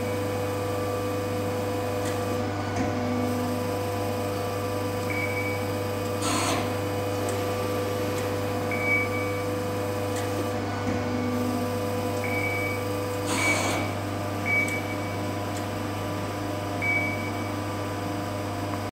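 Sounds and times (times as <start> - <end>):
motor and pump hum: 0.0 - 18.9.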